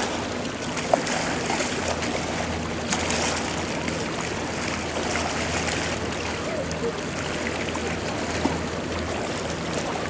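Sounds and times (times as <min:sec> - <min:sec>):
outboard engines idling: 0:00.0 - 0:10.0
rushing water: 0:00.0 - 0:10.0.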